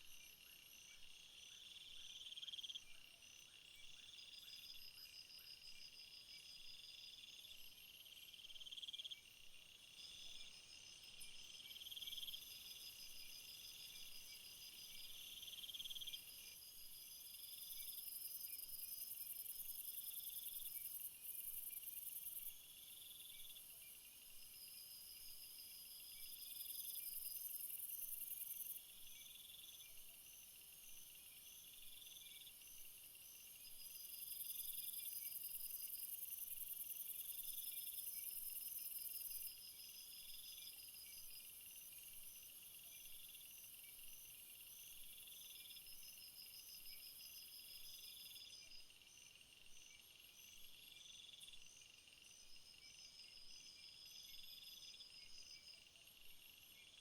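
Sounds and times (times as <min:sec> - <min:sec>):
insects chirping in trills: 0:00.0 - 0:57.0.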